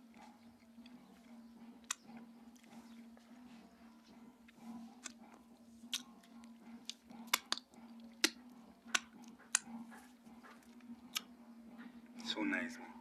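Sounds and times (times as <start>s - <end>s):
person chewing: 0.0s - 11.4s
steady low hum: 0.0s - 13.0s.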